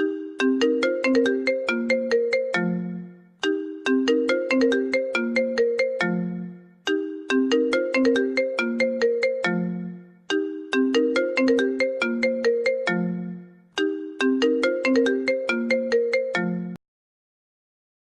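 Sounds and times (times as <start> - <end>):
phone ringtone melody: 0.0 - 16.8.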